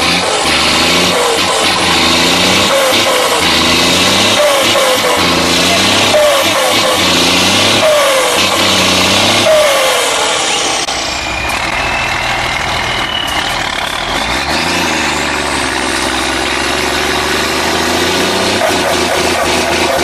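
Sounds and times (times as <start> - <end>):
truck engine under load: 0.0 - 20.0.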